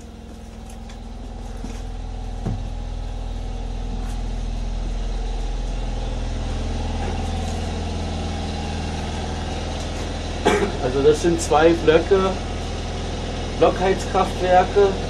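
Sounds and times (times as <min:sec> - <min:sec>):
gas engines humming: 0:00.0 - 0:15.0.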